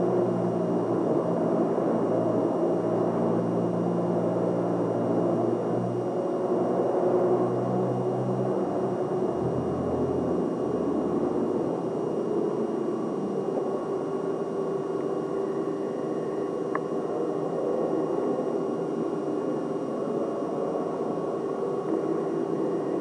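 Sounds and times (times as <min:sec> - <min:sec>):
background hum and hiss: 0:00.0 - 0:23.0
faint constant tone: 0:00.0 - 0:23.0.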